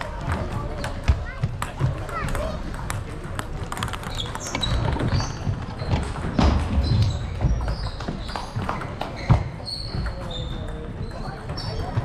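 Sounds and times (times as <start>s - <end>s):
table tennis balls clicking: 0.0s - 12.0s.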